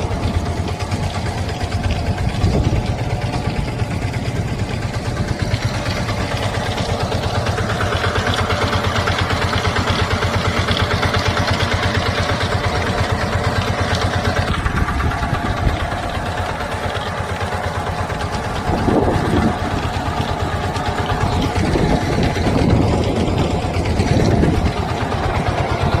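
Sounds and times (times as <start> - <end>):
drilling machine engine running: 0.0 - 26.0.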